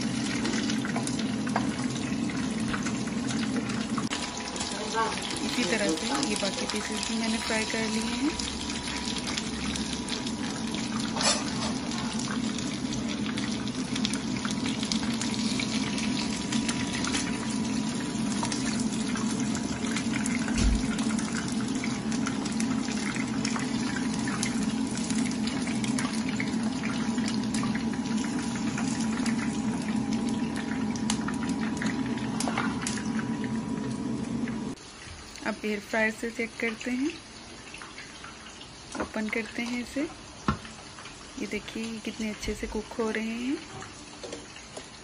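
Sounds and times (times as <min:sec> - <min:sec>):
chicken deep-frying in oil: 0:00.0 - 0:45.0.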